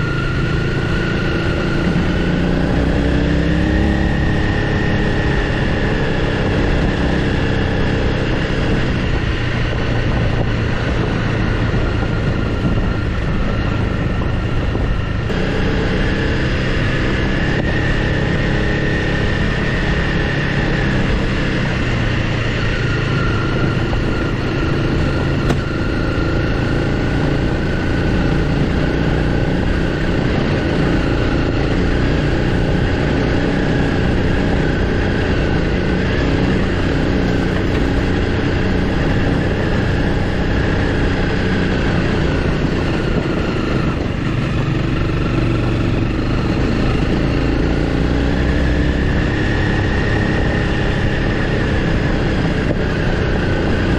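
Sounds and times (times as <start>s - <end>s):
motorcycle engine running: 0.0s - 53.9s
tyre noise on dirt road: 0.0s - 53.9s.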